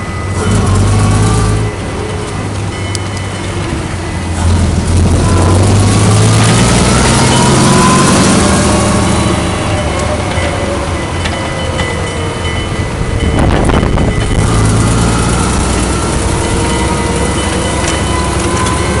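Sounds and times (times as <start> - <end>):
engine running: 0.0 - 19.0
road noise: 0.0 - 19.0.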